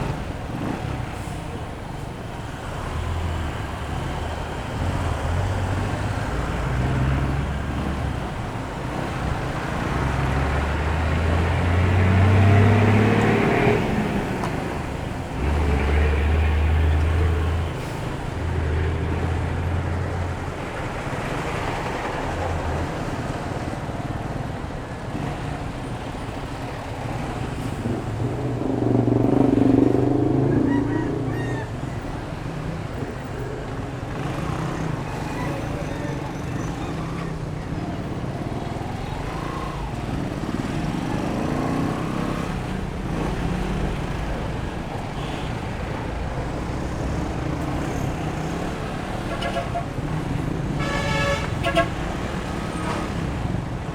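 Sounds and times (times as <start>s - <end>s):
road noise: 0.0s - 53.9s.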